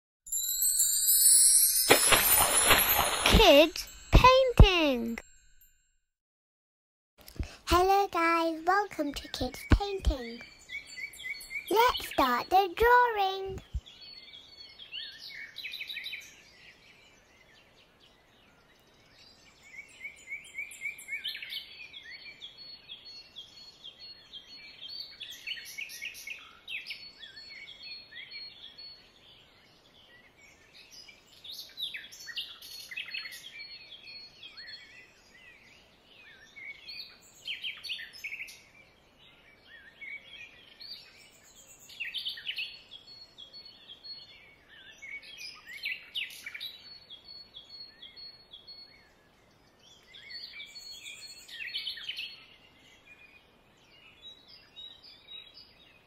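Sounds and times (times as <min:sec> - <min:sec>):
small birds chirping: 0:07.2 - 0:56.0.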